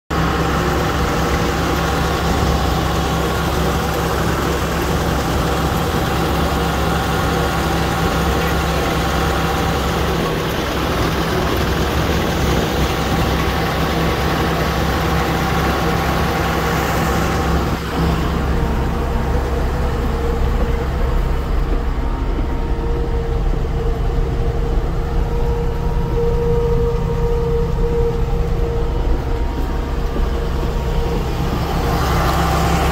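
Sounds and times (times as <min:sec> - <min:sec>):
tractor diesel engine running: 0:00.1 - 0:32.9.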